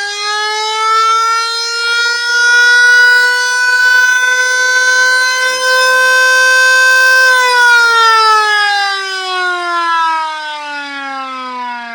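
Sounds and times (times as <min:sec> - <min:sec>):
electric siren wailing: 0:00.0 - 0:11.9.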